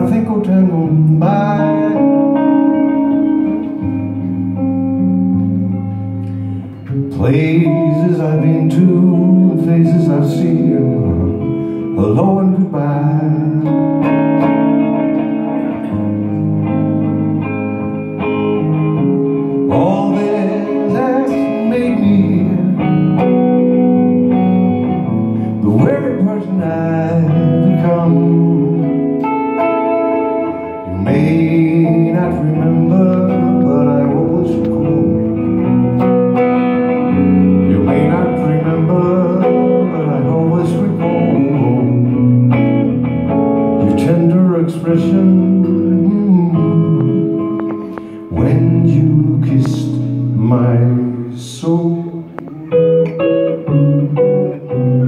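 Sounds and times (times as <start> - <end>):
amplified electric guitar: 0.0 - 55.0.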